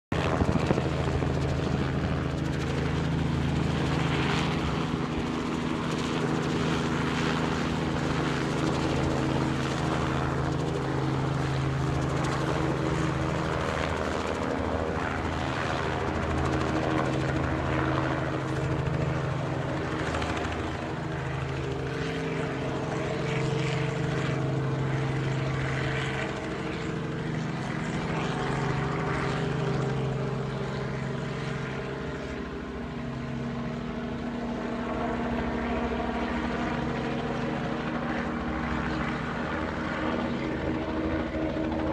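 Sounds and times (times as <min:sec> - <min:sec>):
helicopter rotor and engine drone: 0:00.1 - 0:41.9.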